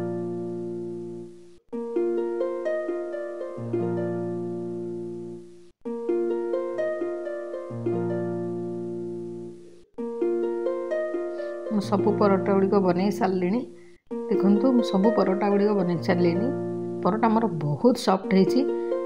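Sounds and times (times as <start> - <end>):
plucked-string tune: 0.0 - 19.0.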